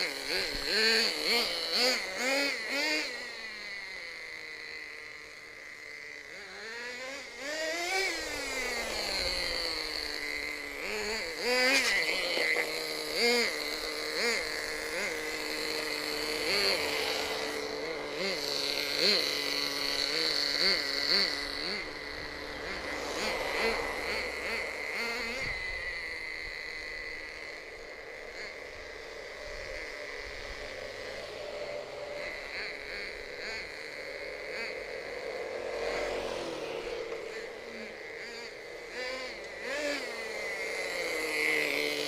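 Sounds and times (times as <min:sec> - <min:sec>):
small nitro engine revving: 0:00.0 - 0:42.0.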